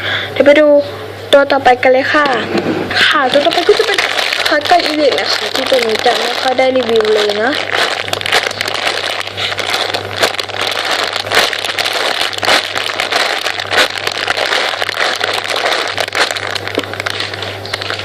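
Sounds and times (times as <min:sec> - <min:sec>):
steady low hum: 0:00.0 - 0:18.0
crackling handling noise: 0:02.2 - 0:18.0.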